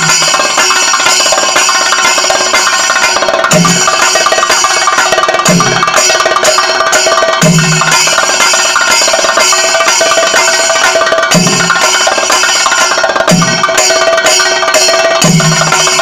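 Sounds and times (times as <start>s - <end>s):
hand cymbals ringing: 0.0s - 16.0s.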